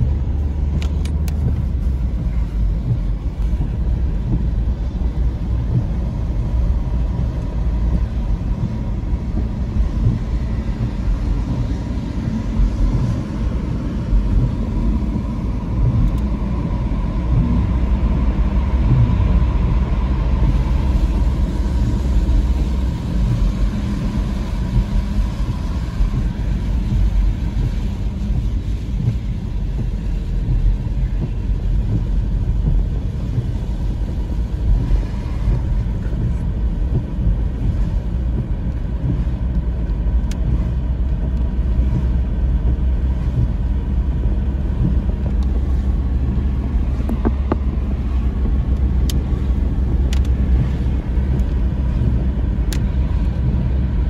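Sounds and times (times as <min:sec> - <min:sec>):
car cabin tyre and engine rumble: 0:00.0 - 0:54.0.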